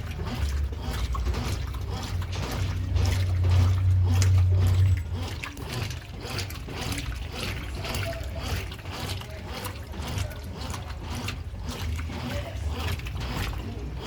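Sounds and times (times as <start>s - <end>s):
low motor hum: 0.0s - 14.0s
water and clothes sloshing: 0.0s - 14.0s.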